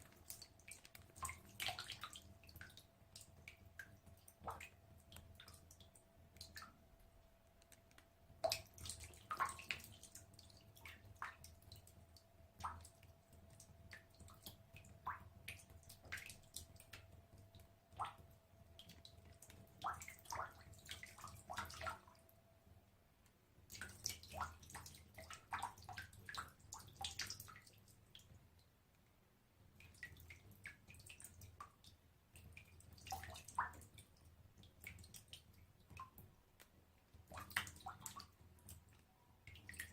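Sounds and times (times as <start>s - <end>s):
water droplets dripping: 0.0s - 22.2s, 23.6s - 28.4s, 29.8s - 39.9s.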